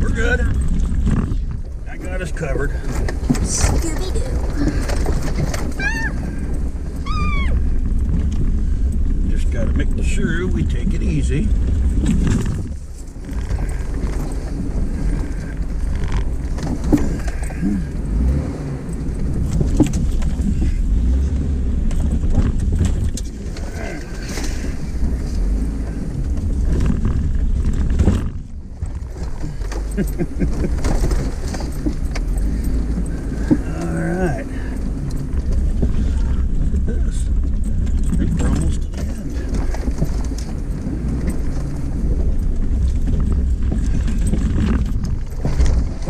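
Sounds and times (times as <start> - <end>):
knocks and rattles over bumps: 0.0 - 46.0
off-road vehicle engine rumble: 0.0 - 46.0.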